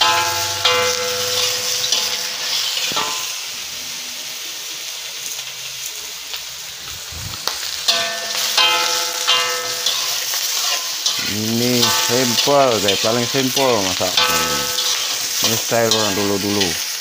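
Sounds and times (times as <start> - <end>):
metal spatula scraping a wok: 0.0 - 4.0, 7.0 - 16.8
pork fat sizzling in a wok: 0.0 - 17.0.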